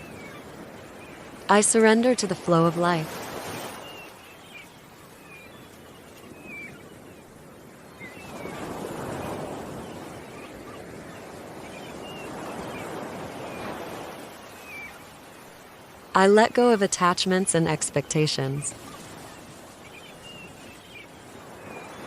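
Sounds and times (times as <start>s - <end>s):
ocean waves washing in: 0.0s - 22.0s.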